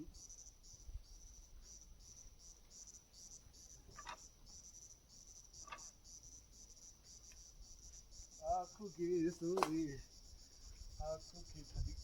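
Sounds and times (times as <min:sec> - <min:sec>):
faint crickets chirping: 0:00.0 - 0:12.0.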